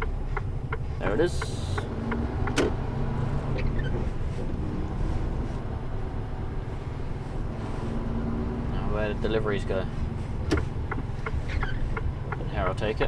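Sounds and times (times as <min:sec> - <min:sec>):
lorry diesel engine drone: 0:00.0 - 0:13.0
road noise inside cab: 0:00.0 - 0:13.0.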